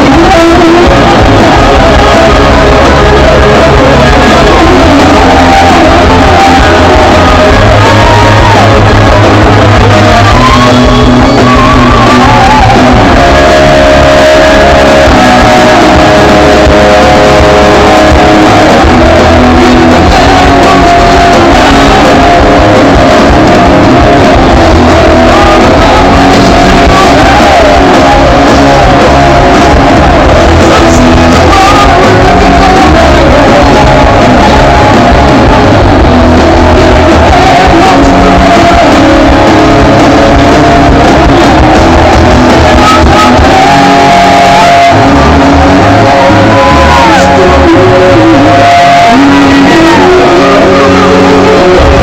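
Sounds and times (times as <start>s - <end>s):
hard rock song with vocals: 0.0s - 52.0s.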